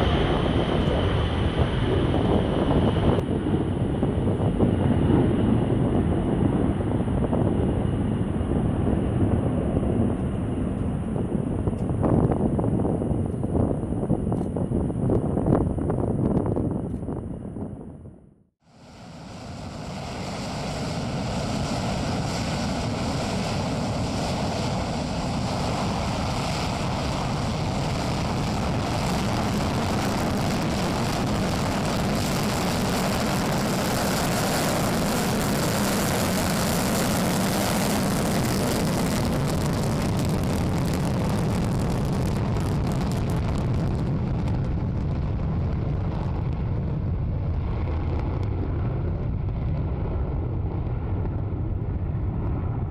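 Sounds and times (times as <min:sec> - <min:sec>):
jet engines roaring with afterburners: 0:00.0 - 0:52.9.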